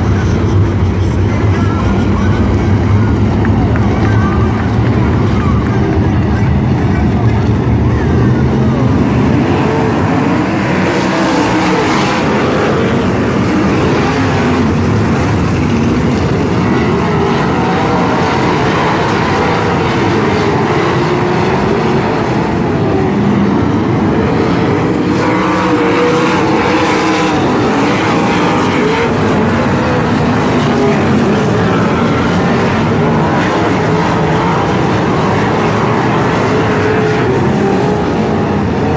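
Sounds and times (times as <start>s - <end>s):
racing car engines: 0.0s - 38.9s.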